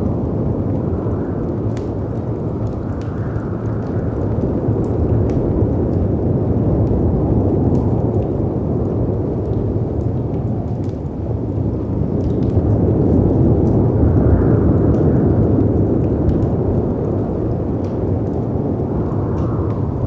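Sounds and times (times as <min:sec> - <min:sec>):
wind: 0:00.0 - 0:20.0
wood fire crackling: 0:00.0 - 0:20.0.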